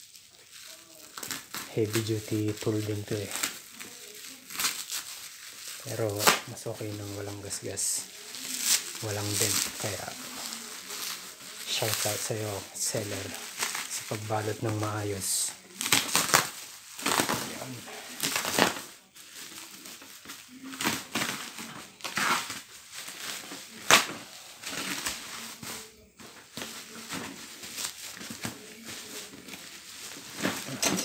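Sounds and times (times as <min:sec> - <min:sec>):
bubble wrap rustling and crinkling: 0:00.0 - 0:31.0.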